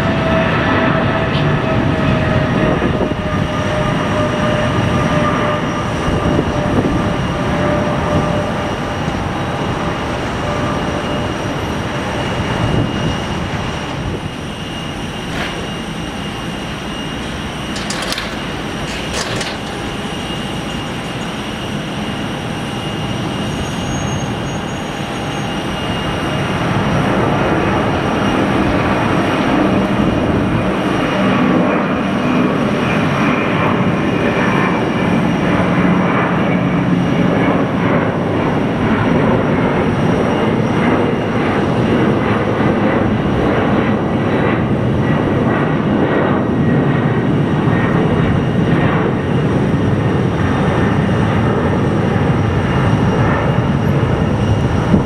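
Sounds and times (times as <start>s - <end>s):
jet engines climbing: 0.0s - 55.0s.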